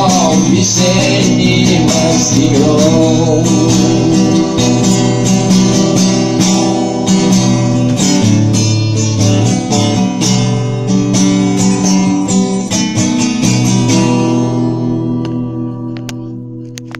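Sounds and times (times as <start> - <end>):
acoustic guitar strumming: 0.0 - 16.9.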